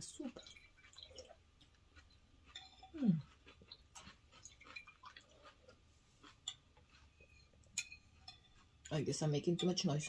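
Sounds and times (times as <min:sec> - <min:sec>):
chewing and slurping noodles: 0:00.3 - 0:09.0.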